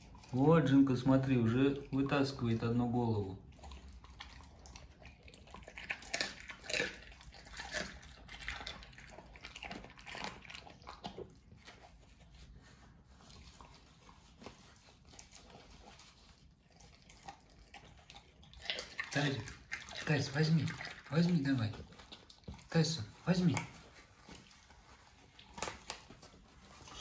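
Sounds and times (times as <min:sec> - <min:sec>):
dog chewing bones: 0:00.0 - 0:27.0.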